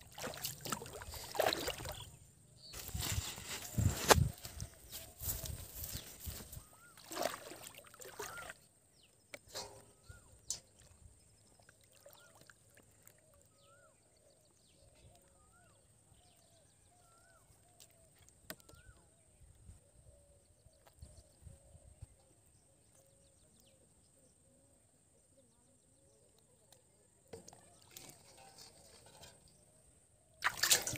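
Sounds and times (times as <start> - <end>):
faint birdsong: 0.1 - 30.9.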